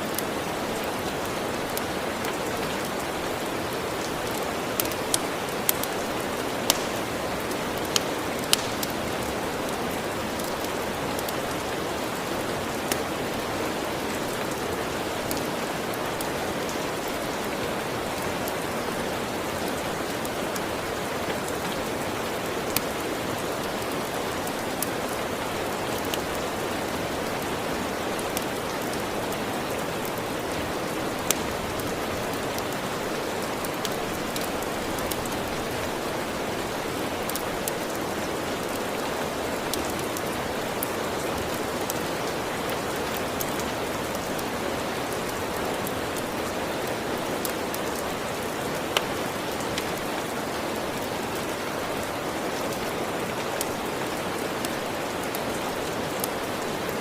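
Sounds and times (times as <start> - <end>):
steady rainfall: 0.0 - 57.0
wood fire crackling: 0.0 - 57.0.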